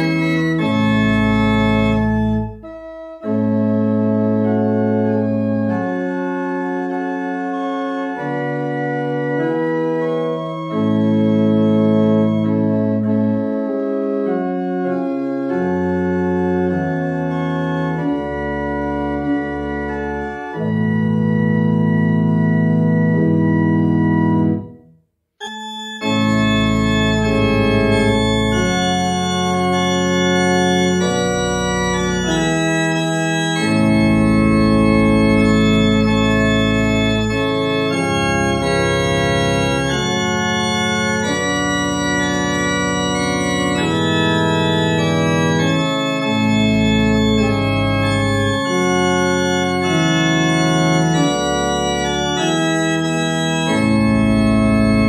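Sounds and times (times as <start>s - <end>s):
church organ playing a hymn: 0.0s - 55.0s.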